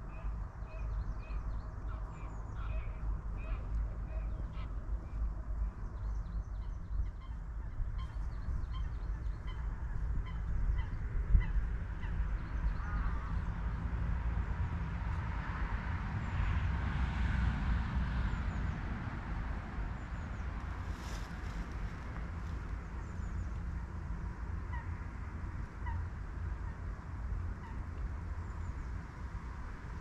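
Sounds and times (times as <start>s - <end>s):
distant road traffic: 0.0s - 30.0s.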